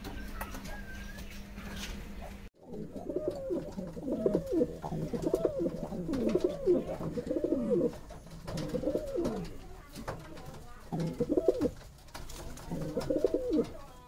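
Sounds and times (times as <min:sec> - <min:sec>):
pigeons cooing: 0:02.6 - 0:14.0.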